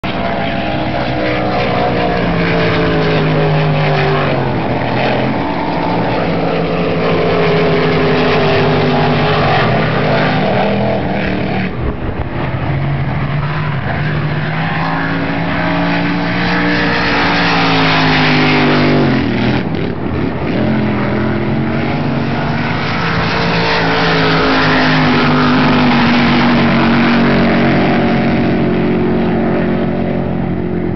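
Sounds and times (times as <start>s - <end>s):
powerboat engines passing: 0.0s - 30.9s.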